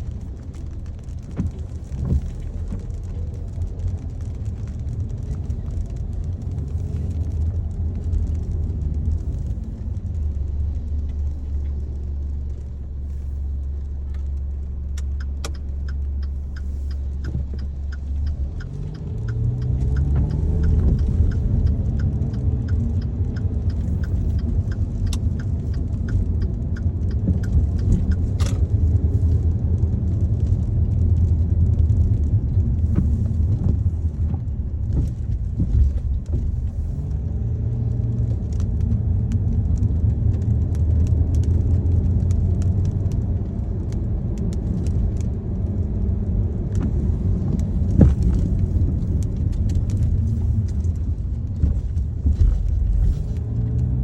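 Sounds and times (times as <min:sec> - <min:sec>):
raindrops ticking on car: 0:00.0 - 0:54.0
road and engine rumble inside car: 0:00.0 - 0:54.0.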